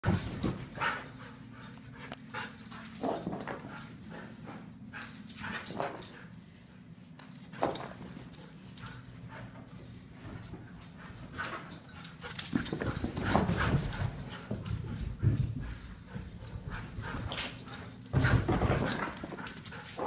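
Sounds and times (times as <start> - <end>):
dog paws thumping and scrabbling: 0.0 - 6.2, 7.6 - 20.0.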